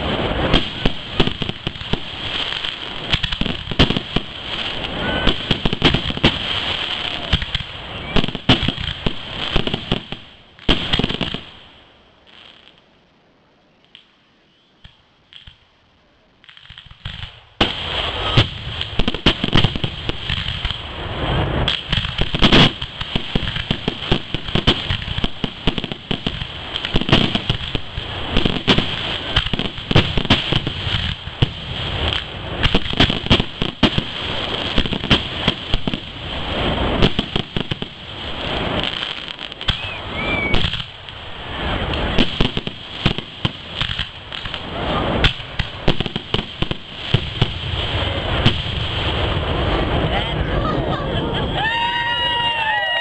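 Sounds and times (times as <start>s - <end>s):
fireworks bangs: 0.0s - 12.9s, 13.8s - 53.0s
faint fireworks pops: 0.0s - 13.0s, 13.6s - 50.2s
fireworks launches and bursts: 0.0s - 53.0s.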